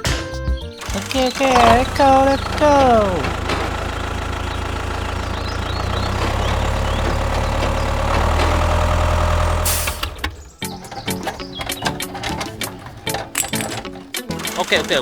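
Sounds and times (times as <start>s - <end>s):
small motor humming: 0.8s - 15.0s.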